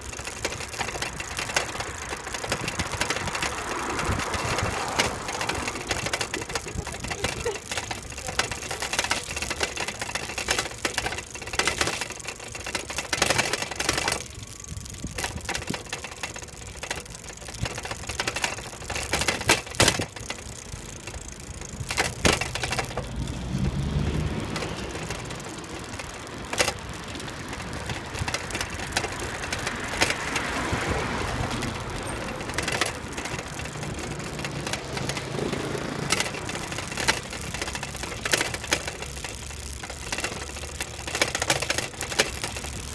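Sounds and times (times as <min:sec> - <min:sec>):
camera rig rattling clicks: 0:00.0 - 0:23.4, 0:24.4 - 0:42.9
rolling road noise: 0:00.0 - 0:42.9.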